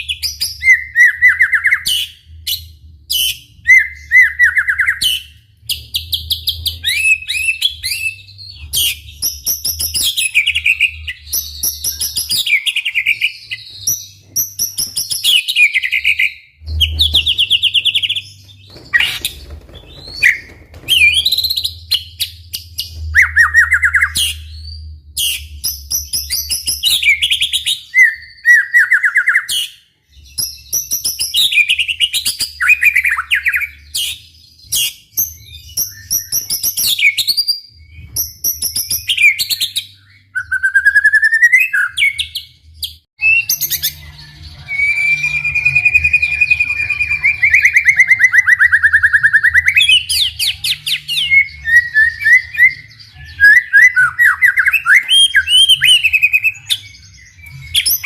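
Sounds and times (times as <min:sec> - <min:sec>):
bird singing trills and whistles: 0:00.0 - 0:58.0.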